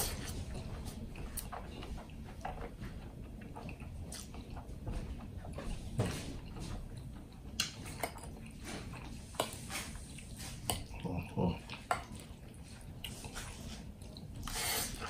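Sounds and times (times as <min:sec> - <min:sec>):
wet chewing sounds: 0:00.0 - 0:15.0.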